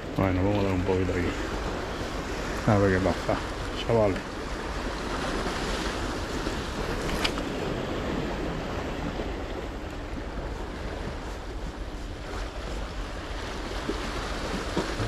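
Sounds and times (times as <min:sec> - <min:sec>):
waves breaking against rocks: 0:00.0 - 0:15.0
wind buffeting microphone: 0:00.0 - 0:15.0.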